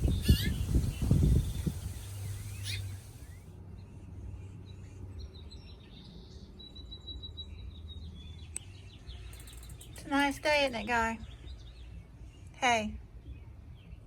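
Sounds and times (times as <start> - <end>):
faint birds chirping: 0.0 - 14.0
low steady background hum: 0.0 - 14.0.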